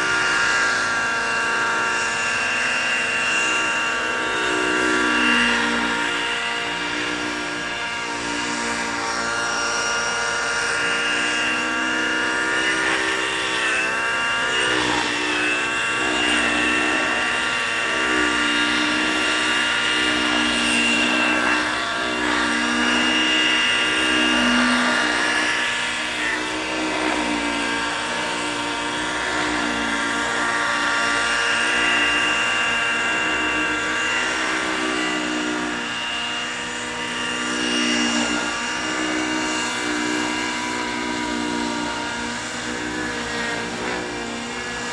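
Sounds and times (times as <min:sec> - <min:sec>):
model helicopter engine and rotors: 0:00.0 - 0:44.9.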